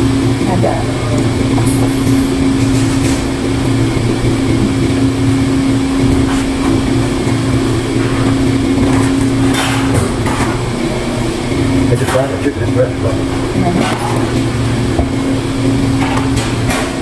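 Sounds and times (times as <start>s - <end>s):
ventilation hum: 0.0s - 17.0s.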